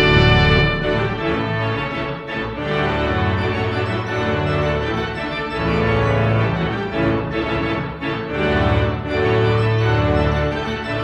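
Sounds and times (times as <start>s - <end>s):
instrumental music with held chords: 0.0s - 11.0s.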